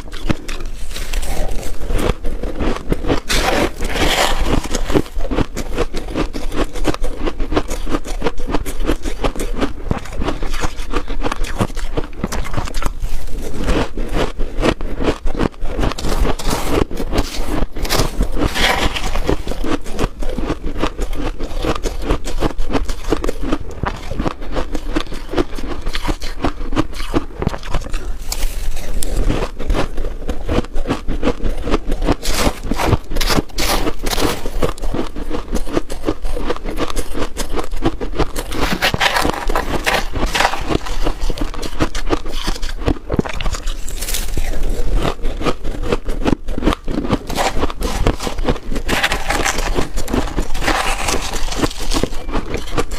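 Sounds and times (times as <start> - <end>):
freezer frost scraped and crunched: 0.0 - 52.9.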